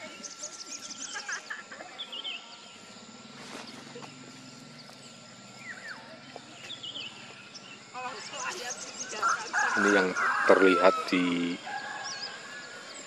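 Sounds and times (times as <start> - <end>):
low drawn-out drone: 0.0 - 13.0
small birds chirping: 0.0 - 13.0.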